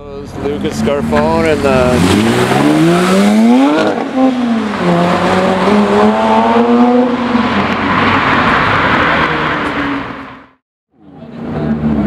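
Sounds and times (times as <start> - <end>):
car engine accelerating: 0.2 - 12.0
car rushing by: 0.4 - 10.6.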